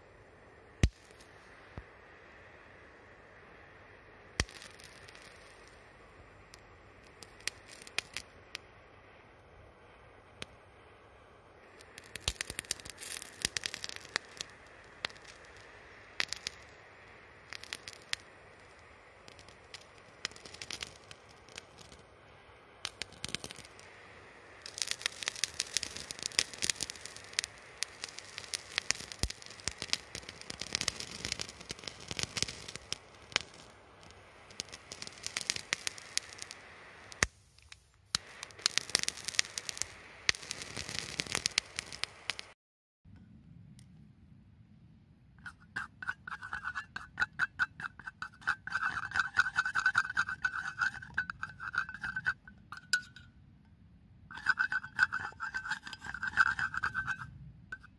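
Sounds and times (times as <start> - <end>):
wood fire crackling and popping: 0.8 - 1.9, 4.4 - 8.8, 11.6 - 42.6, 45.4 - 53.2, 54.3 - 57.9.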